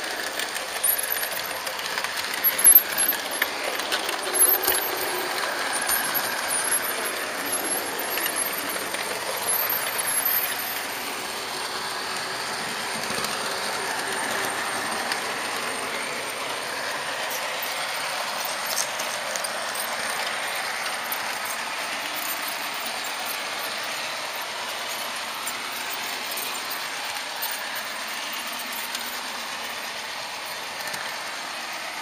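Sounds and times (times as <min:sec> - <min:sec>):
model train wheels rattling on rails: 0:00.0 - 0:32.0.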